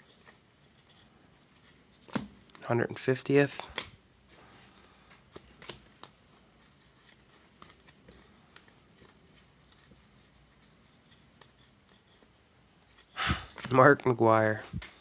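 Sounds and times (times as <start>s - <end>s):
trading cards flipped through: 0.1s - 2.6s, 3.6s - 4.4s, 5.1s - 14.1s.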